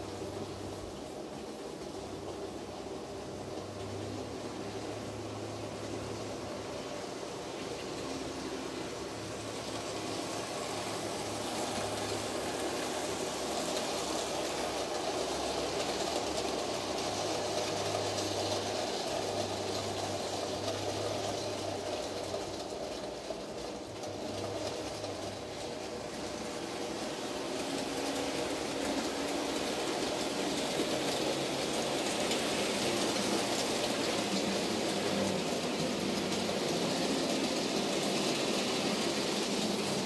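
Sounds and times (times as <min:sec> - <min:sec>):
model train motor hum: 0:00.0 - 0:40.0.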